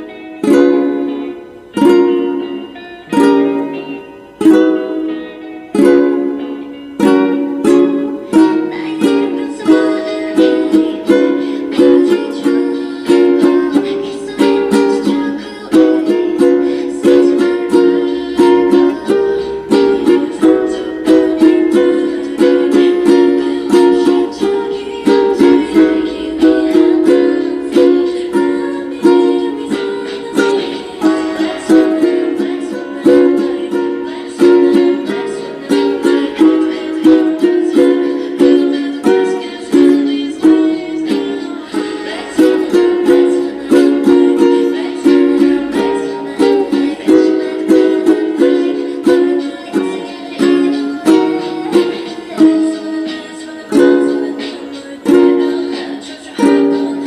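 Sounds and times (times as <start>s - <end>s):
ukulele plucked and strummed: 0.0s - 57.0s.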